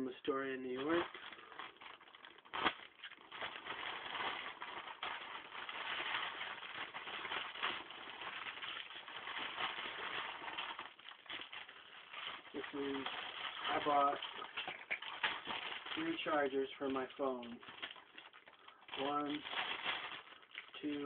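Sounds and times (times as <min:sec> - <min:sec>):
packaging rustling and crinkling: 0:00.7 - 0:21.0.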